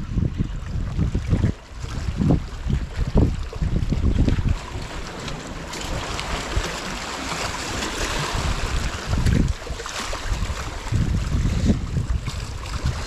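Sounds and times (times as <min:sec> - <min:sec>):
wind on microphone: 0:00.0 - 0:13.0
water splashing against rocks: 0:00.7 - 0:13.0.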